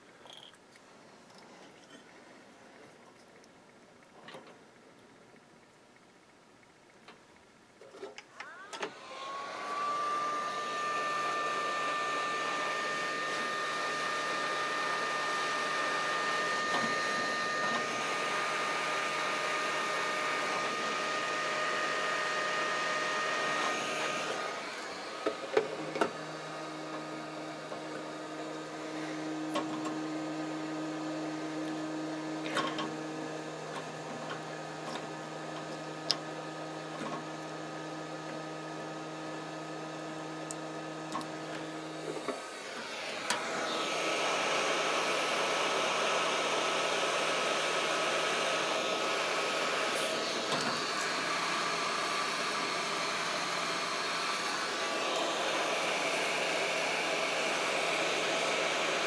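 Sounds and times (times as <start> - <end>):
heat gun blowing: 8.4 - 59.0.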